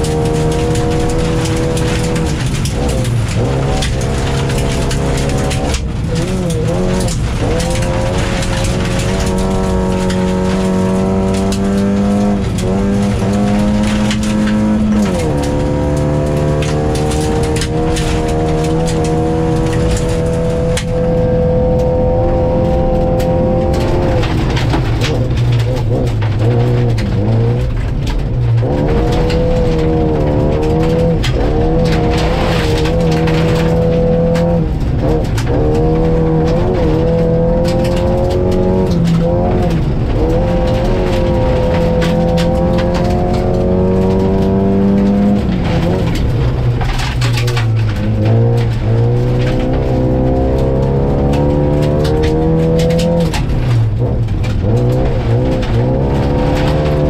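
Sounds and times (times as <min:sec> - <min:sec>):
car engine at high revs: 0:00.0 - 0:57.0.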